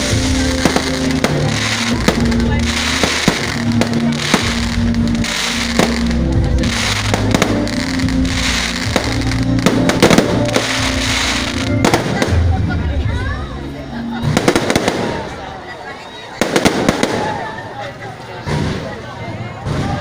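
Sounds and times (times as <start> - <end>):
fireworks bangs and crackling: 0.0 - 13.5, 14.1 - 20.0
music with long held notes: 0.0 - 17.2.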